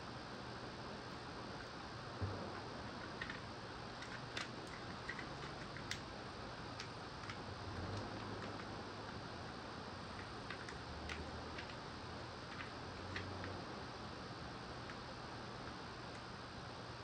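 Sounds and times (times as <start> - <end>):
low hum: 0.9 - 16.2.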